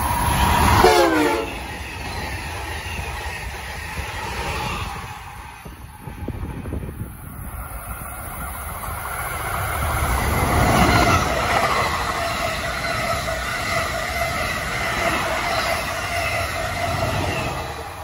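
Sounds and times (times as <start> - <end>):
electric locomotive whine: 0.0 - 18.0
train wheels rumbling on rails: 0.0 - 18.0.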